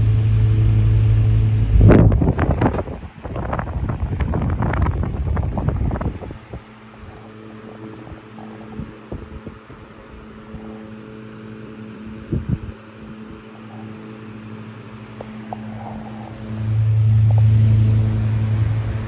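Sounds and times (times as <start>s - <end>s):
table fan running: 0.0s - 19.0s.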